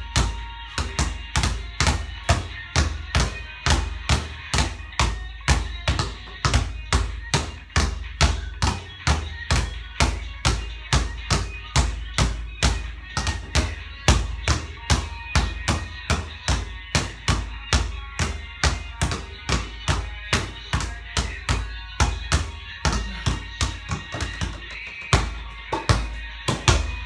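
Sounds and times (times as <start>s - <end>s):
basketball bouncing on court: 0.0s - 27.0s.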